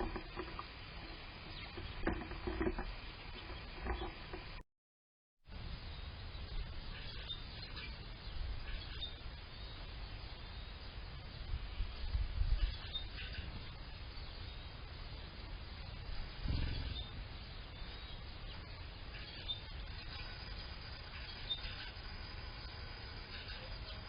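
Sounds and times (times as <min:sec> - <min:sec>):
faint birdsong: 0:00.0 - 0:04.6, 0:05.5 - 0:24.0
songbirds chirping: 0:00.0 - 0:04.6, 0:05.5 - 0:24.0.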